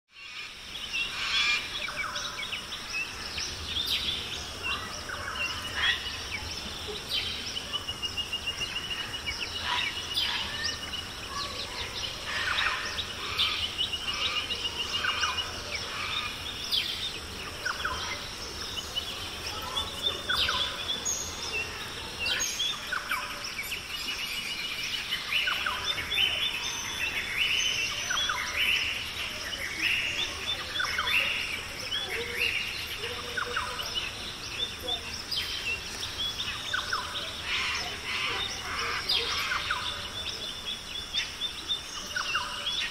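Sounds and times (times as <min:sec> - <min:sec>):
birds chirping and trilling: 0:00.1 - 0:42.9.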